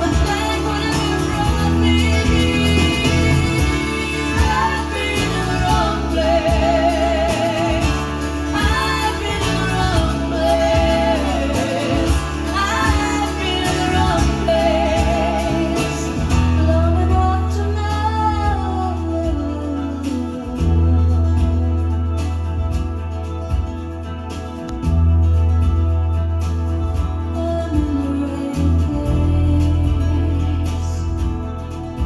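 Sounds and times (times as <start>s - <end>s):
woman singing: 0.0s - 22.6s, 26.8s - 32.0s
deep bass line: 0.0s - 32.0s
guitar: 0.0s - 32.0s.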